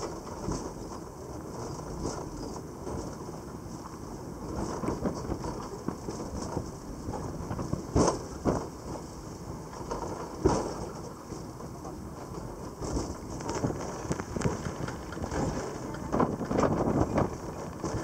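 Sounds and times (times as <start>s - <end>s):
funicular car rattling and rumbling: 0.0s - 18.0s.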